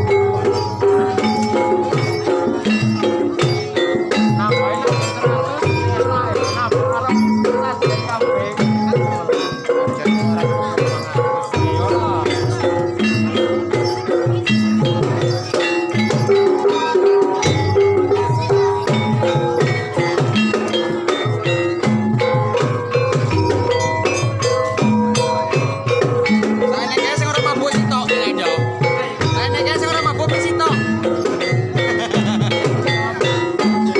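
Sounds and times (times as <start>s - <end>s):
hand drums beating: 0.0s - 33.9s
struck tuned percussion ringing: 0.0s - 33.9s.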